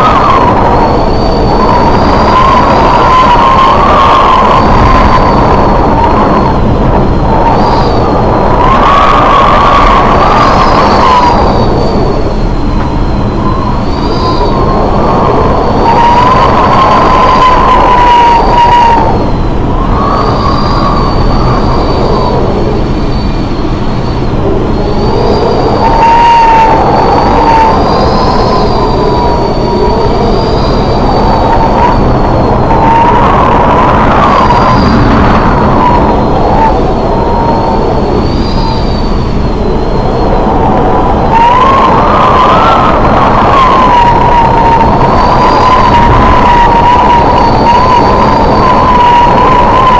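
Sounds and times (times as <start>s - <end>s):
wind howling: 0.0s - 49.9s.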